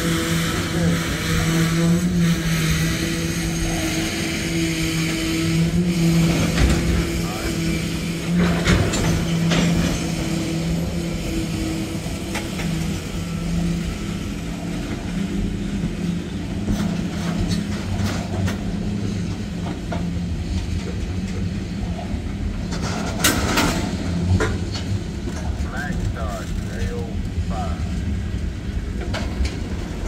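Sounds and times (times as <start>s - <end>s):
low hum of moving train cars: 0.0s - 30.0s.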